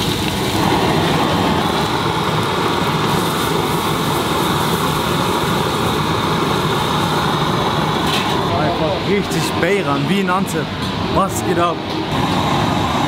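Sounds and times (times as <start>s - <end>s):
gas burners roaring: 0.0s - 13.0s.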